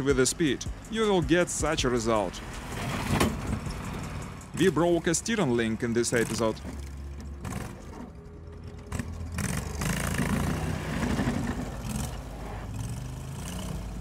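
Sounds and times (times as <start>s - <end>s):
atv engine running under load: 0.0s - 14.0s.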